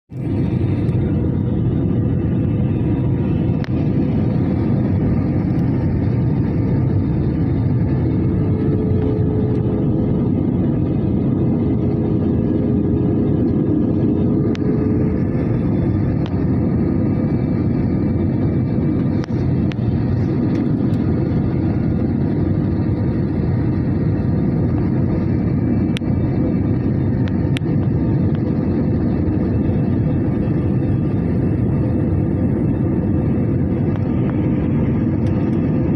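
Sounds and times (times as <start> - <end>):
airliner engine and airflow rumble: 0.0 - 35.9.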